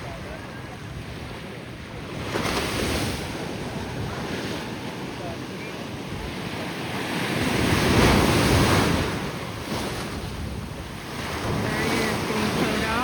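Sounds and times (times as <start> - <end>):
ocean waves breaking on beach: 0.0 - 13.0
wind buffeting microphone: 0.0 - 13.0.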